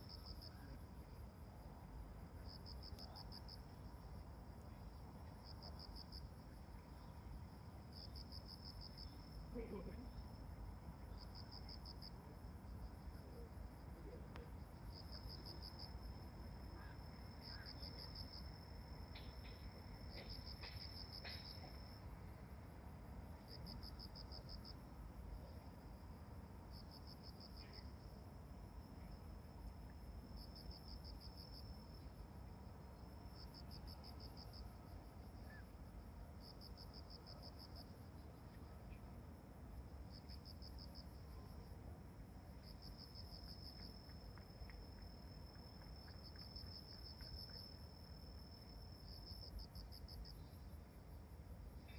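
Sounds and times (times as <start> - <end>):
faint fast insect chirring: 0.0 - 51.9.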